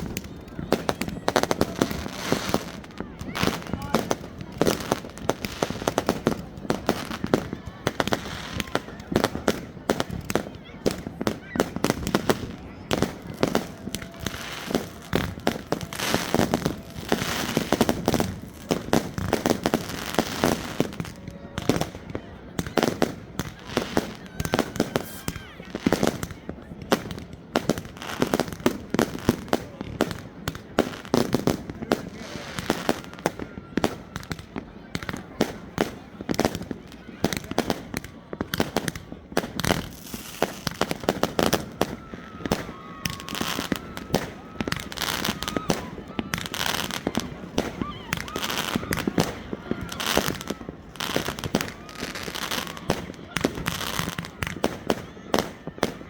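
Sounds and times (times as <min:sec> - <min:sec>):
fireworks bangs and pops: 0:00.0 - 0:56.0
fireworks crackling: 0:00.0 - 0:56.0.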